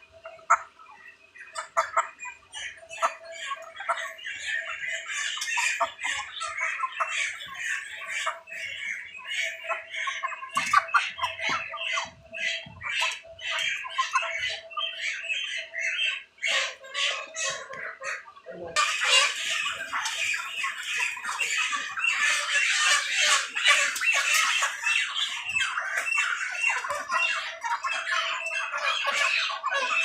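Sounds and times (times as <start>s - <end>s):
chickens squawking: 0.0s - 30.0s.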